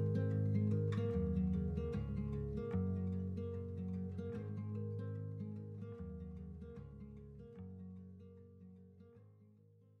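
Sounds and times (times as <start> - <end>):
song with guitar: 0.0 - 9.9.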